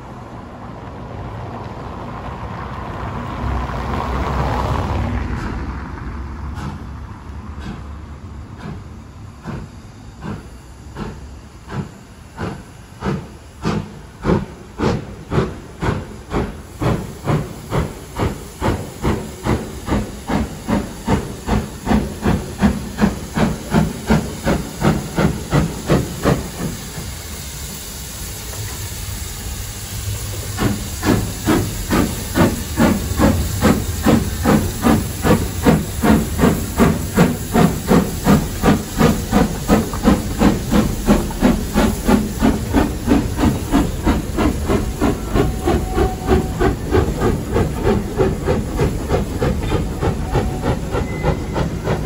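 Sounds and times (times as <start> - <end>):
steam locomotive exhaust chuffs: 2.9 - 52.0.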